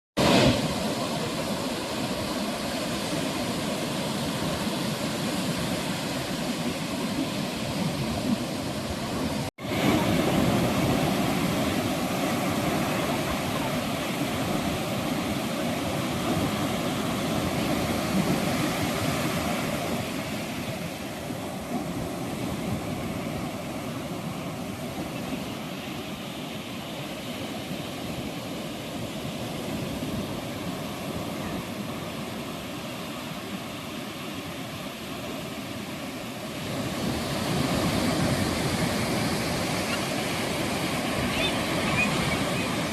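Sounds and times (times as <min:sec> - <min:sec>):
waves washing onto beach: 0:00.2 - 0:42.9.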